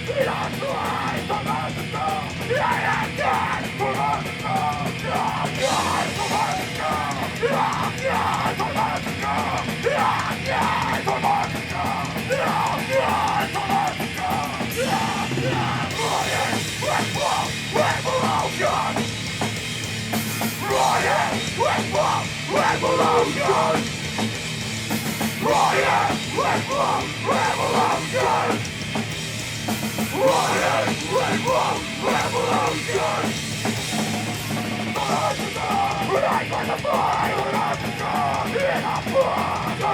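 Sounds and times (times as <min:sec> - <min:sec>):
shouted vocals: 0:00.0 - 0:19.1, 0:20.4 - 0:24.0, 0:25.4 - 0:28.7, 0:30.0 - 0:39.9
distorted guitars: 0:00.0 - 0:39.9
drum kit: 0:00.0 - 0:39.9.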